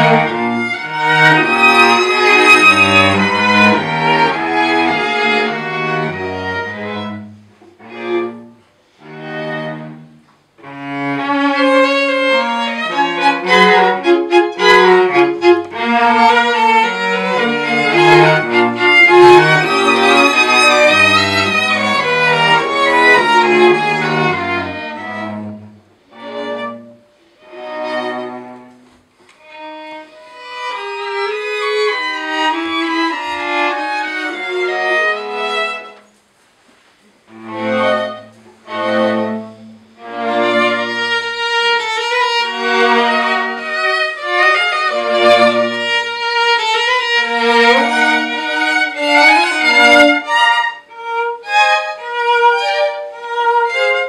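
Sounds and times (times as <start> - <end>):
string quartet playing: 0.0 - 54.0.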